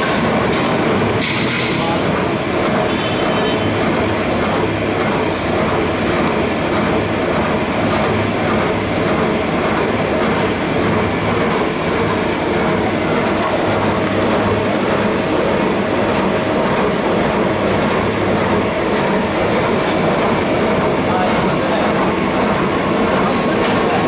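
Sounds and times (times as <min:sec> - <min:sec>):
rhythmic mechanical clatter: 0:00.0 - 0:24.0.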